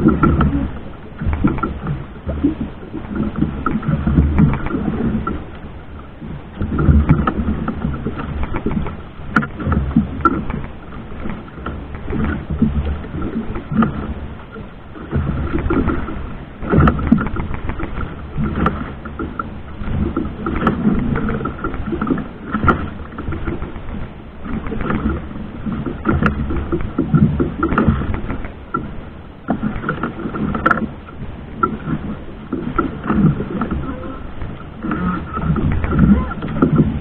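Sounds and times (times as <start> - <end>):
wind and water washing over boat: 0.0 - 37.0.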